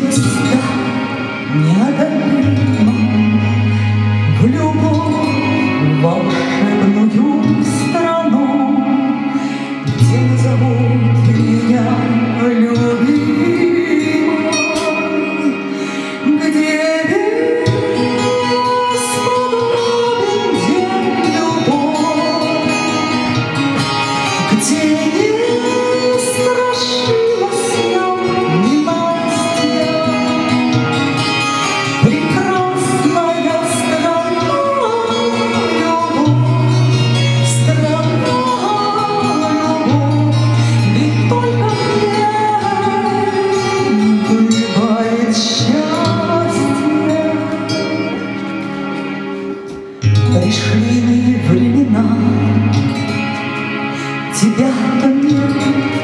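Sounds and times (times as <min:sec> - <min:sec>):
instrumental backing track: 0:00.0 - 0:56.0
woman singing into a microphone: 0:00.0 - 0:56.0.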